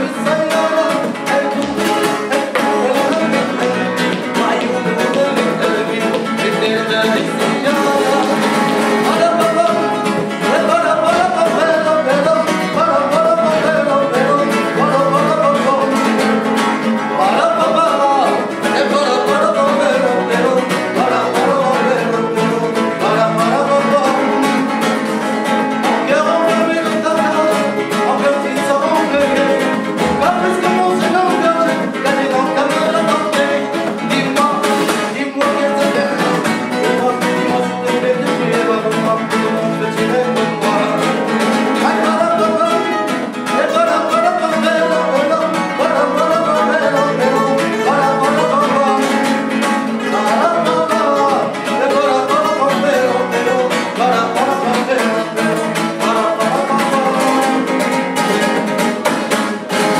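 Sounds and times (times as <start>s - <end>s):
flamenco guitar duet: 0.0s - 59.9s.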